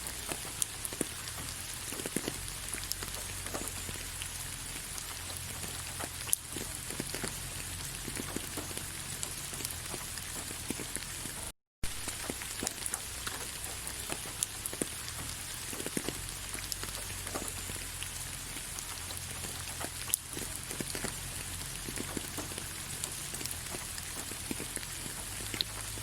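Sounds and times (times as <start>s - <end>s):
rain pattering on leaves: 0.0s - 26.0s.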